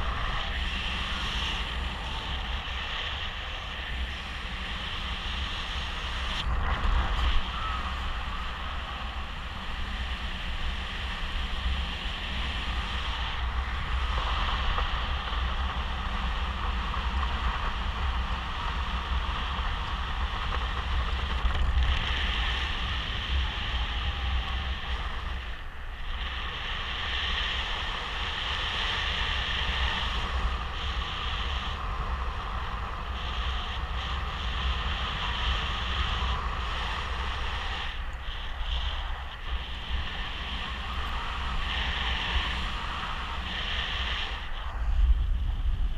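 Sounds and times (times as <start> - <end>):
wind rush over microphone: 0.0 - 45.9.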